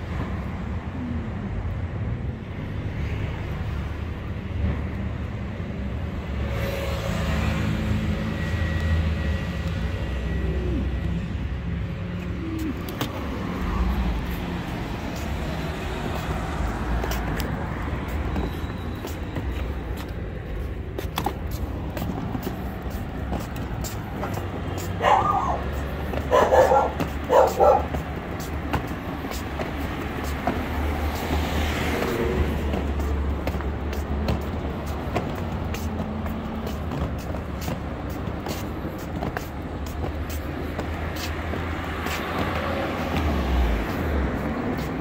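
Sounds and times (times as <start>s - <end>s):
passing vehicles rumbling: 0.0s - 45.0s.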